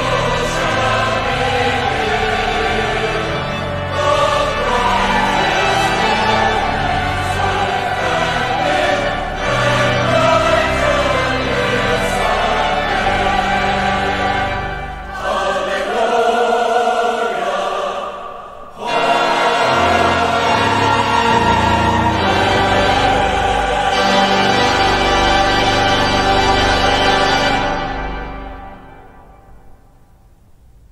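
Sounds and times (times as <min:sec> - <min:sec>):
pipe organ: 0:00.0 - 0:18.1, 0:18.8 - 0:29.8
choir singing: 0:00.0 - 0:29.7.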